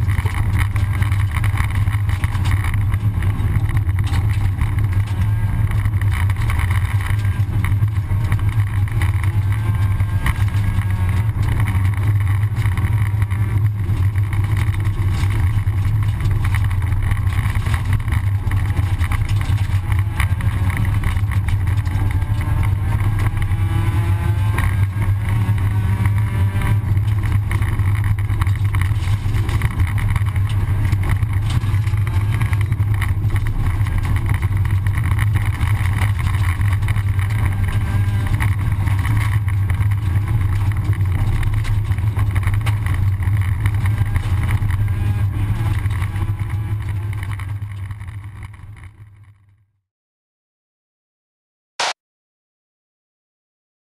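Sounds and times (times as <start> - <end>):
tyres on gravel: 0.0 - 49.3
rally car engine under load: 0.0 - 49.8.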